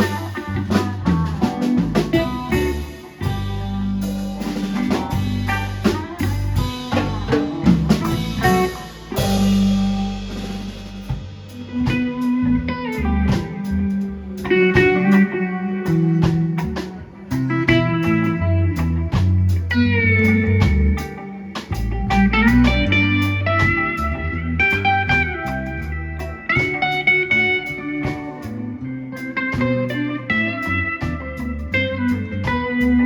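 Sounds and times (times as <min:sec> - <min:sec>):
bass guitar: 0:00.0 - 0:33.0
drum kit: 0:00.0 - 0:33.0
electric guitar lead: 0:00.0 - 0:33.0.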